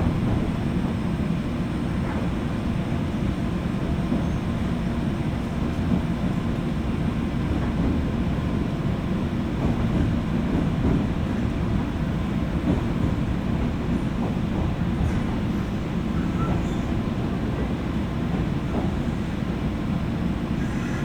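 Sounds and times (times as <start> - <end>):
electric train low rumble: 0.0 - 21.0.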